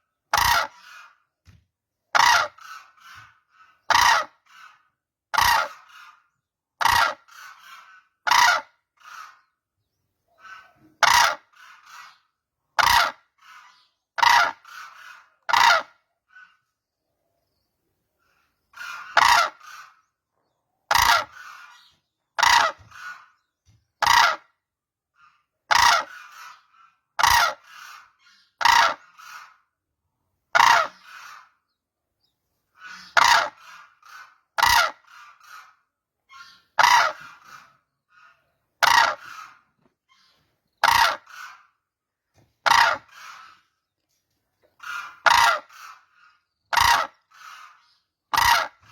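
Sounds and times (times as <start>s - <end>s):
cranes calling: 0.3s - 1.3s, 2.1s - 9.7s, 10.3s - 16.7s, 18.2s - 29.7s, 30.5s - 31.7s, 32.7s - 41.9s, 42.6s - 44.0s, 44.6s - 48.9s.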